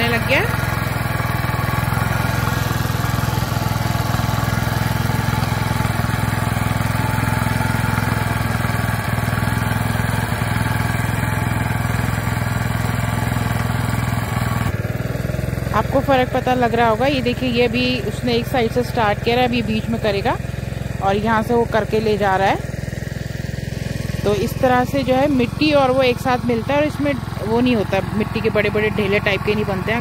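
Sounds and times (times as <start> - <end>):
tiller engine running: 0.0 - 30.0.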